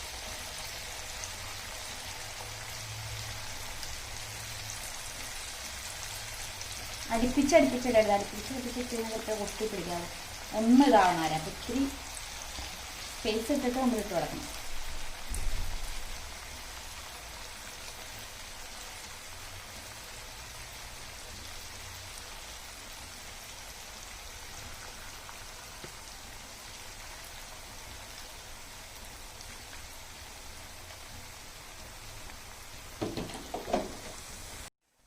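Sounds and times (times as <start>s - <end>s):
food deep-frying in oil: 0.0s - 35.0s.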